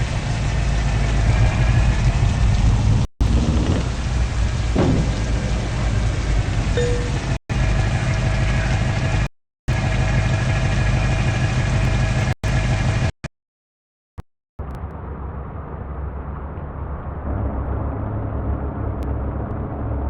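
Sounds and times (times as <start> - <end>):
truck engine rumbling: 0.0 - 13.1, 14.6 - 20.0.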